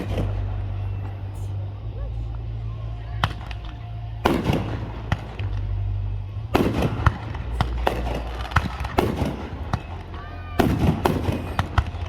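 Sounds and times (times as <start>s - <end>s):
fireworks bangs: 0.0s - 1.8s, 2.4s - 12.0s
fireworks crackling bursts: 0.0s - 12.0s.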